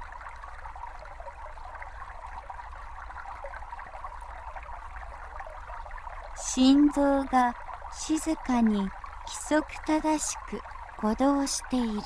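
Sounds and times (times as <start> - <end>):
brook babbling over stones: 0.0 - 12.0.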